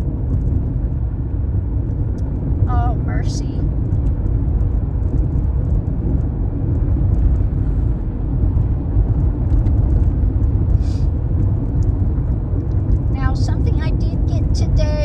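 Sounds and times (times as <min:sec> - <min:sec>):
road noise inside car cabin: 0:00.0 - 0:15.0.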